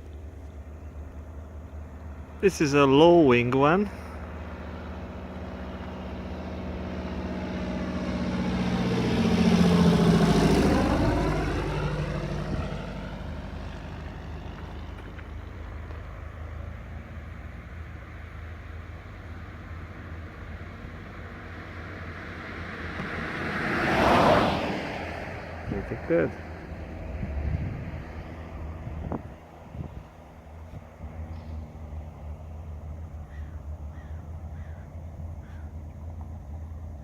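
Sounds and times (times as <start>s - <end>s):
propeller aircraft passing: 0.0s - 37.0s.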